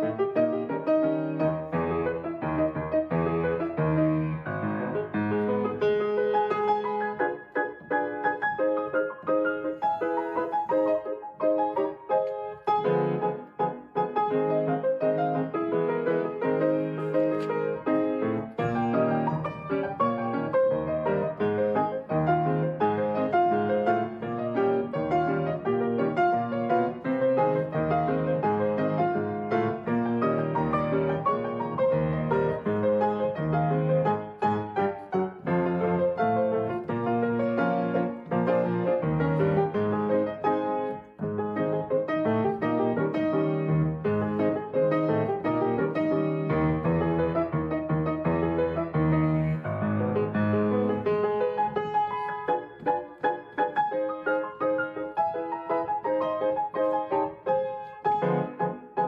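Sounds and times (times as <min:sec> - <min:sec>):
grand piano playing: 0:00.0 - 0:59.0.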